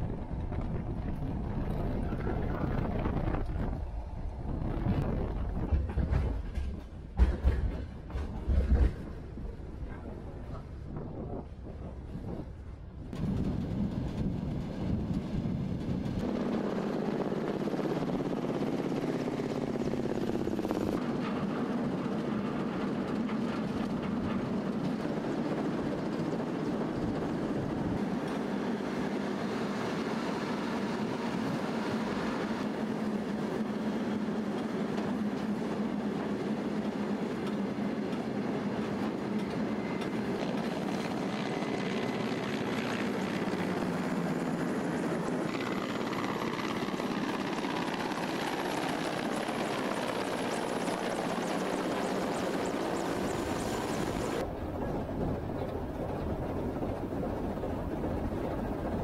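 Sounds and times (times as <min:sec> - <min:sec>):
helicopter rotor and engine: 0:00.0 - 0:10.6, 0:13.0 - 0:59.0
moving train running noise: 0:00.0 - 0:59.0.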